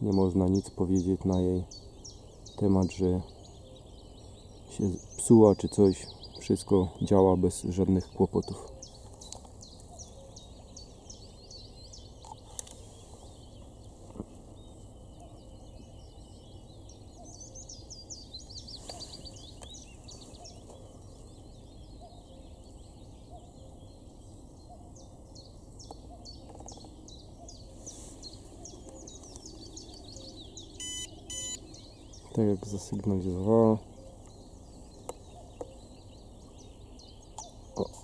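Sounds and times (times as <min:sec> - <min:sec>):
outdoor background noise: 0:00.0 - 0:38.0
songbirds singing: 0:00.0 - 0:38.0.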